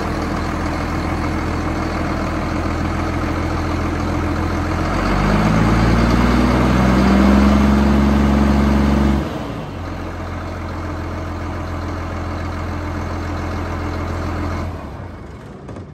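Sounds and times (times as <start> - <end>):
tractor diesel engine revving: 0.0 - 15.7.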